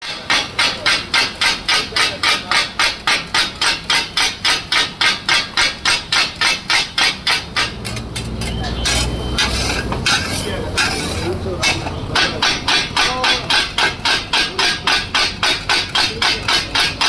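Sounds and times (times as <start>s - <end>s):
metal spatulas chopping on griddle: 0.0s - 17.0s.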